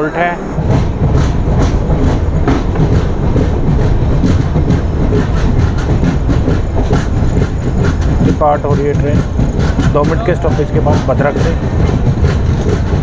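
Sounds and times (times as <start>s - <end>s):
heavy low rumble: 0.0s - 13.0s
train wheels clattering: 0.0s - 13.0s.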